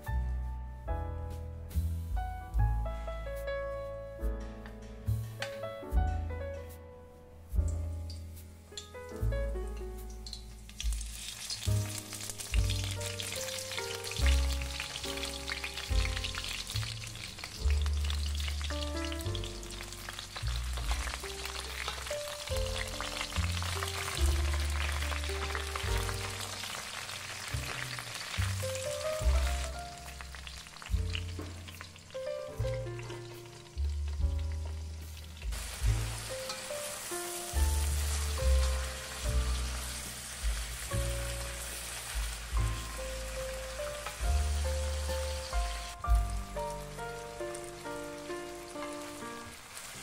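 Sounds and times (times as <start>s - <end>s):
background music: 0.0s - 50.0s
peppers sizzling in oil: 7.6s - 50.0s.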